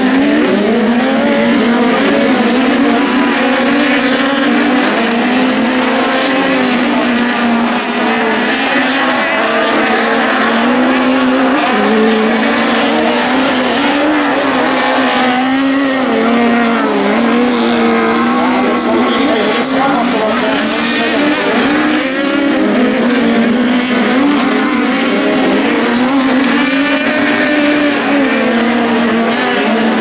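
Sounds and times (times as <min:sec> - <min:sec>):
racing buggy engines revving: 0:00.0 - 0:30.0.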